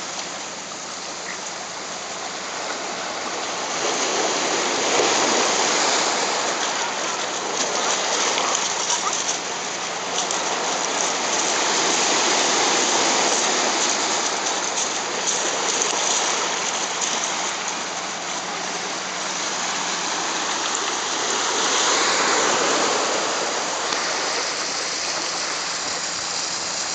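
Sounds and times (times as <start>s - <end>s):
small waterfall splashing: 0.0s - 26.9s.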